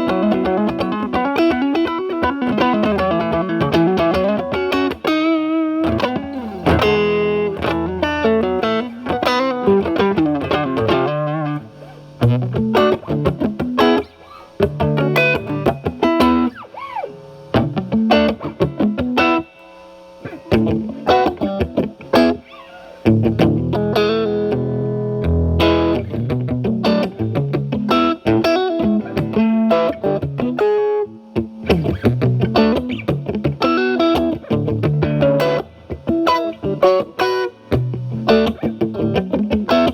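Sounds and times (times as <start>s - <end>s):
overdriven electric guitar: 0.0s - 39.9s.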